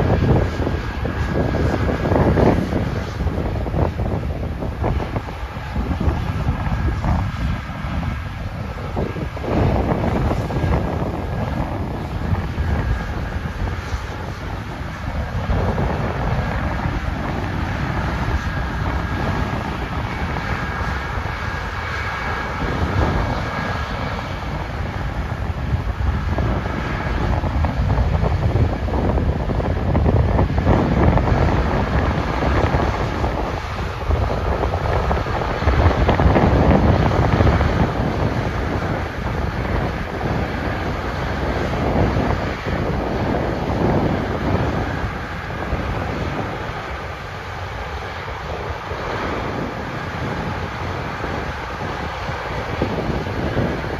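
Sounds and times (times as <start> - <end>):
farm machinery drone: 0.0 - 53.9
wind buffeting microphone: 0.0 - 53.9.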